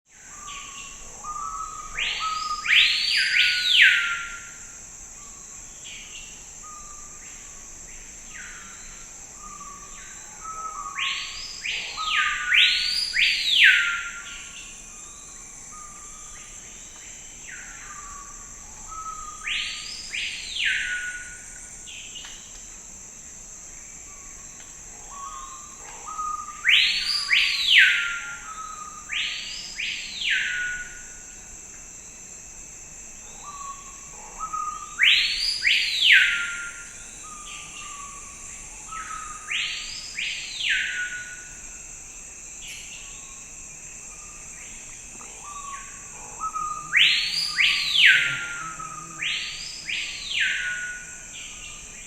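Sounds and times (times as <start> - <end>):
insect drone: 0.1 - 52.0.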